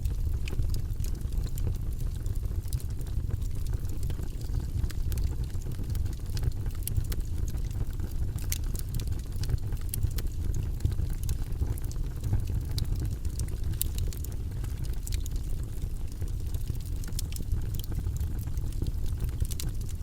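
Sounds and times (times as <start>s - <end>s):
campfire rumble: 0.0s - 20.0s
fire crackles and pops: 0.0s - 20.0s.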